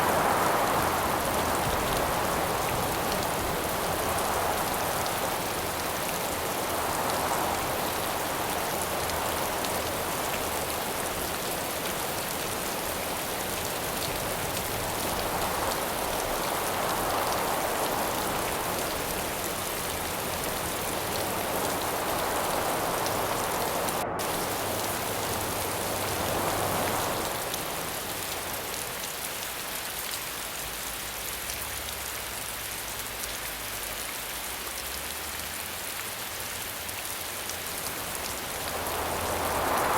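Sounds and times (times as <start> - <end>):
wind gusts: 0.0 - 30.0, 36.7 - 39.9
steady rain hissing: 0.0 - 39.9.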